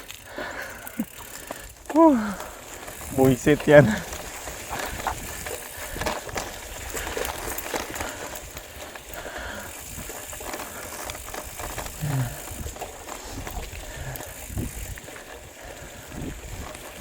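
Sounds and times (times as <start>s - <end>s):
bike tyres rolling on rough trail: 0.0s - 17.0s
small clicks and rattles: 0.0s - 17.0s.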